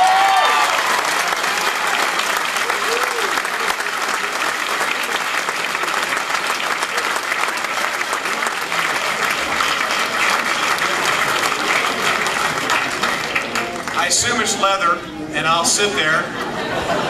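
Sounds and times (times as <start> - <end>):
crowd applauding: 0.0 - 14.7.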